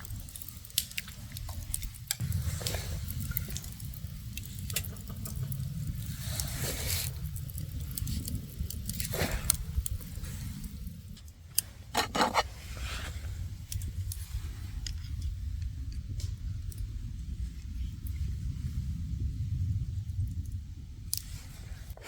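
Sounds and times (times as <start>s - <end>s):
steady low rumble: 1.4s - 22.0s.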